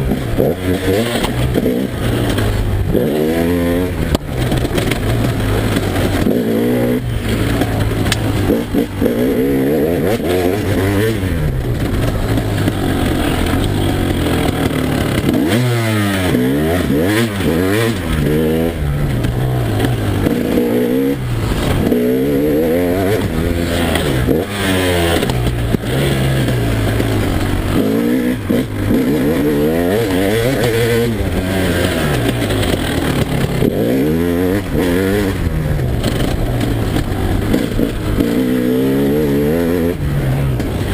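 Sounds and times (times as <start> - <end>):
motorbike engine revving hard: 0.0 - 40.9.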